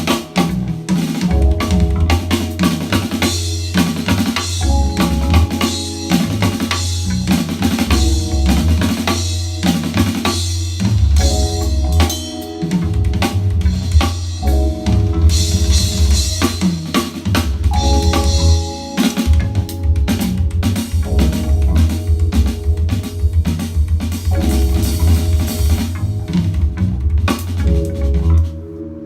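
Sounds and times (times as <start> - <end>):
music with drums and heavy bass: 0.0 - 28.5.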